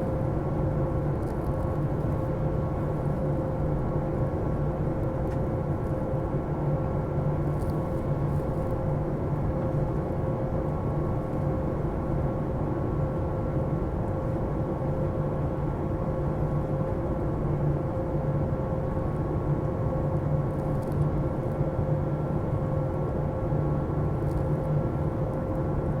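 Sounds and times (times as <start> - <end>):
constant hums: 0.0 - 26.0
jet engine and airflow drone: 0.0 - 26.0.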